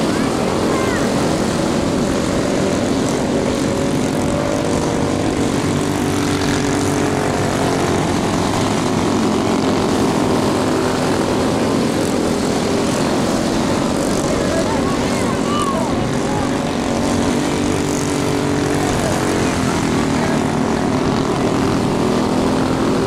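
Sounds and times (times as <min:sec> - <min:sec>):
snowmobile engines buzzing: 0:00.0 - 0:23.0.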